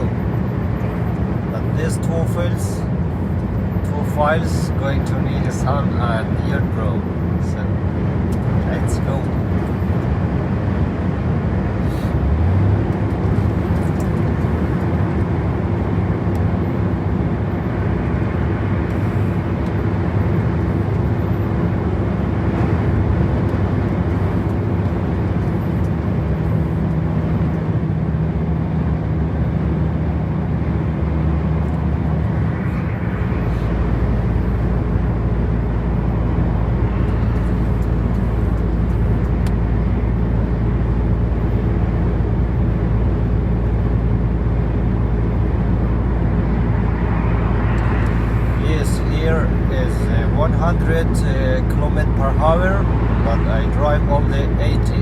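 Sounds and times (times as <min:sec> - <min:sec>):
road and tyre noise: 0:00.0 - 0:55.0
truck engine drone: 0:00.0 - 0:55.0.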